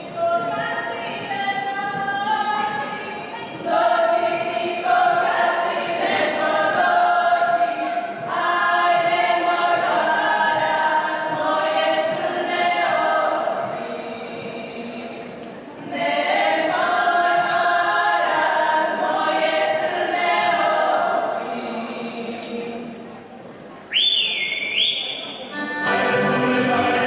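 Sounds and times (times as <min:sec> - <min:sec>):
women singing unaccompanied: 0:00.0 - 0:23.0.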